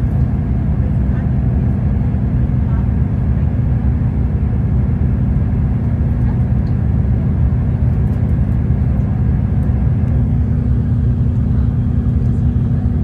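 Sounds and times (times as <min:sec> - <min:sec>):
low rumble of moving vehicle: 0:00.0 - 0:13.0.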